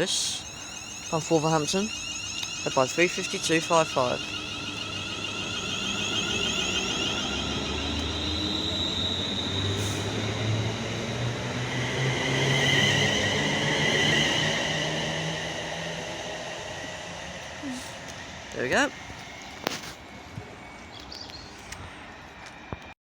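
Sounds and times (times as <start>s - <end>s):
electric train motor whine: 0.0s - 22.9s
wheel and rail noise: 0.0s - 23.0s.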